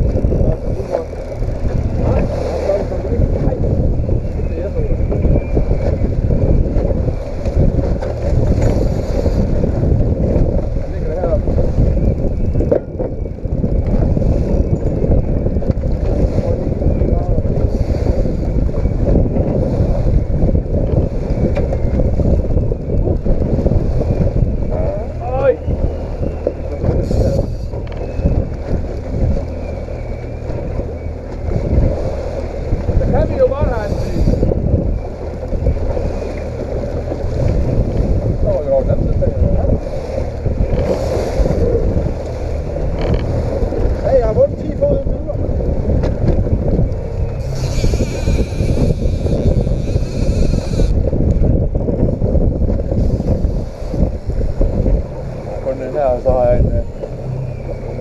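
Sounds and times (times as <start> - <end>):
boat noise: 0.0 - 58.0
water: 0.0 - 58.0
wind buffeting microphone: 0.0 - 58.0.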